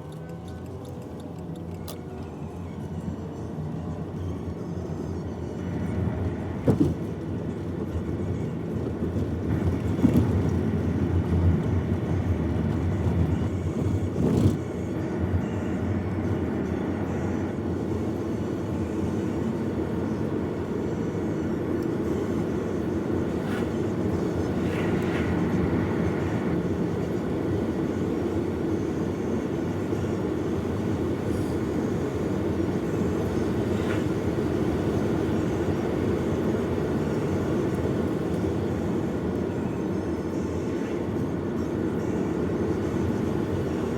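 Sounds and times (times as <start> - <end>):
vehicle rumble from inside: 0.0 - 43.9.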